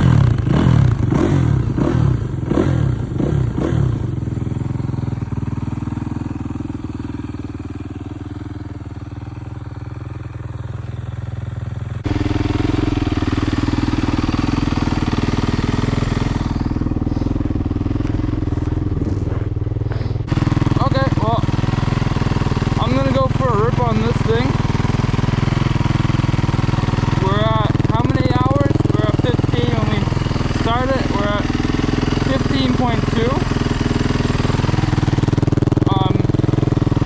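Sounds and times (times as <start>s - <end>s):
dirt bike engine revving and idling: 0.0s - 37.0s.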